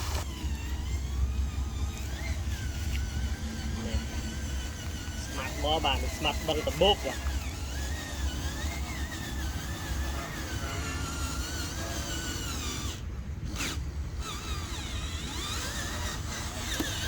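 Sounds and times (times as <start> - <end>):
small electric motor whine: 0.0 - 17.0.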